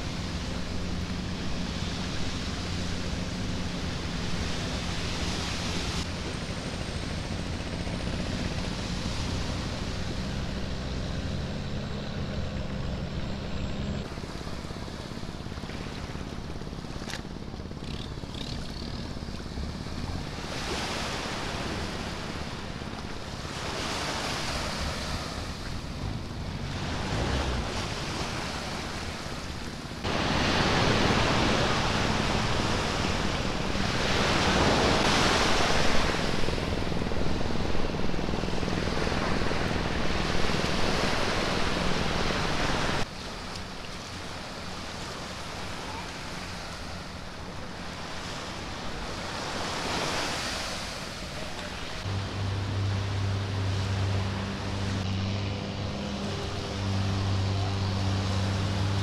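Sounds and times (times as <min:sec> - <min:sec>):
boat engine running: 0:00.0 - 0:59.0
waves washing onto beach: 0:00.0 - 0:59.0.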